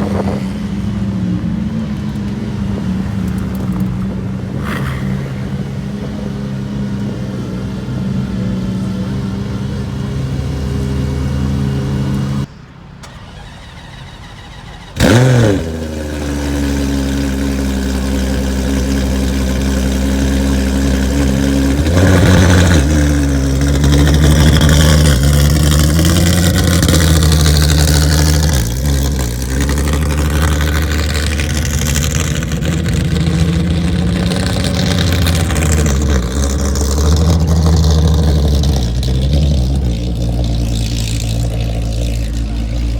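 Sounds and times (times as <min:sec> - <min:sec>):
car engine starting and idling: 0:00.0 - 0:42.9.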